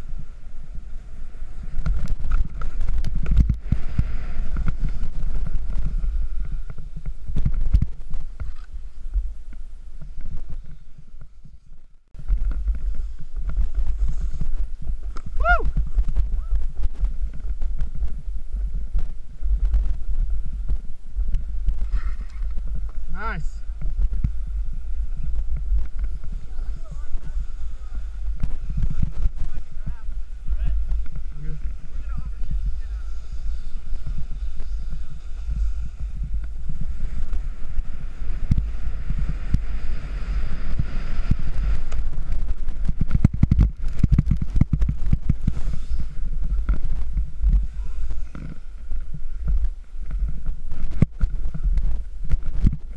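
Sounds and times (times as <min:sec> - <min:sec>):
snowboard scraping over snow: 0:00.0 - 0:52.9
wind buffeting microphone: 0:00.0 - 0:52.9.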